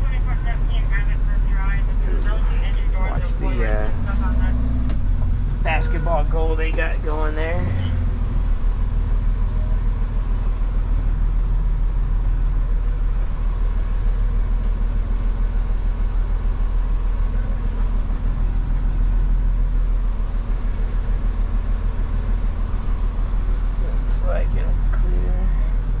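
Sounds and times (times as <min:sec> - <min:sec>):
diesel engine low rumble: 0:00.0 - 0:26.0.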